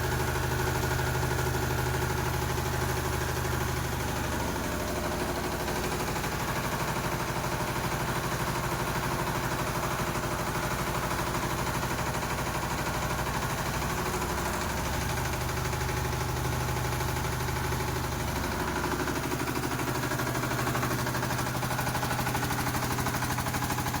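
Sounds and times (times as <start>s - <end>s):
diesel generator running: 0.0s - 24.0s.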